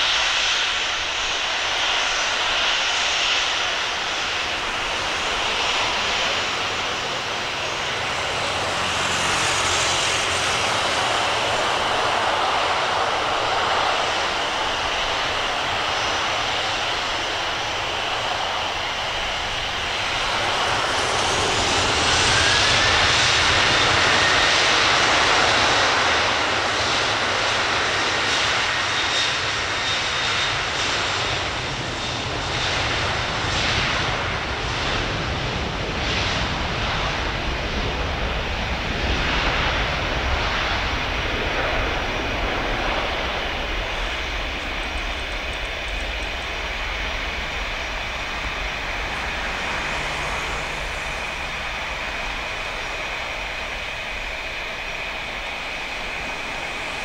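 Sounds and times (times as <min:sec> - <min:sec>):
jet engines roaring with whine: 0:00.0 - 0:57.0.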